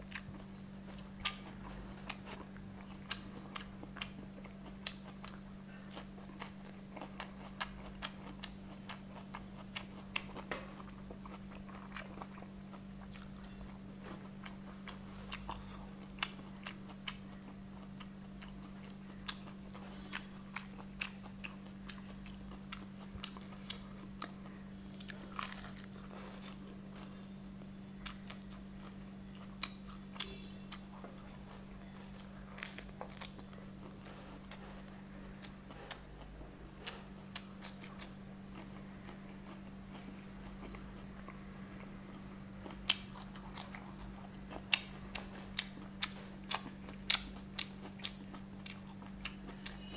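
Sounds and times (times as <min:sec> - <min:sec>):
chewing crispy fried chicken: 0:00.0 - 0:49.9
steady low hum: 0:00.0 - 0:49.9.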